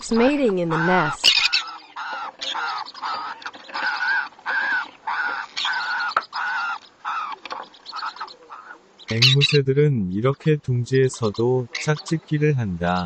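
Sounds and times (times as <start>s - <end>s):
parrots calling: 0.0s - 9.6s, 10.9s - 13.0s.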